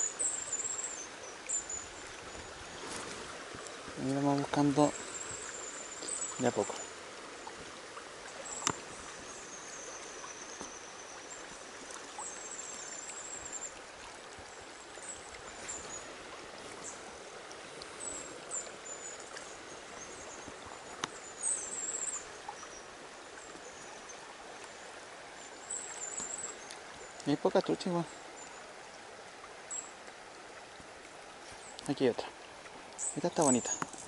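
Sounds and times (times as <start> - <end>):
river current rushing: 0.0 - 34.0.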